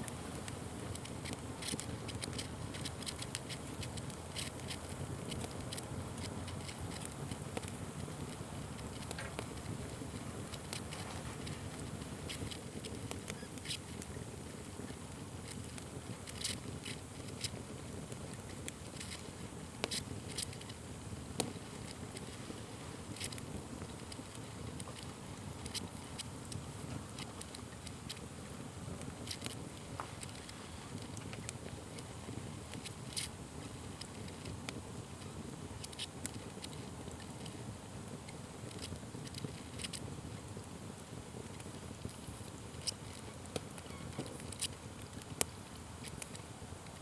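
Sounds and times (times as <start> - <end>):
low rumble of flames: 0.0 - 47.0
wood fire crackling and popping: 0.0 - 47.0.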